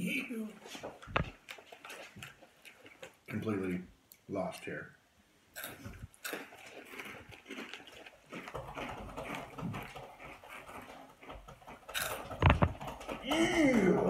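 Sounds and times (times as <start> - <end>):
chewing crunchy snack: 0.6 - 4.2, 5.5 - 14.0.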